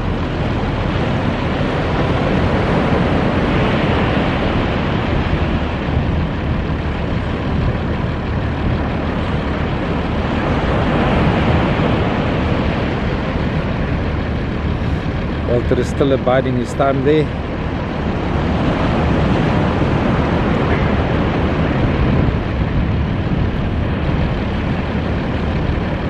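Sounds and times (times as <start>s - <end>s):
low rumble: 0.0s - 26.0s
ocean surf breaking: 0.0s - 26.0s.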